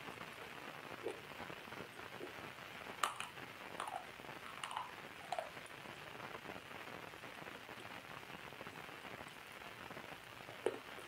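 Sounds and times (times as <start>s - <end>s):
light steady hiss: 0.0s - 11.0s.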